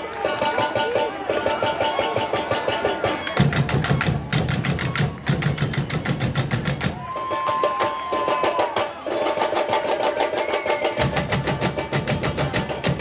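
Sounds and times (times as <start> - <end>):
samba drum ensemble: 0.0 - 13.0.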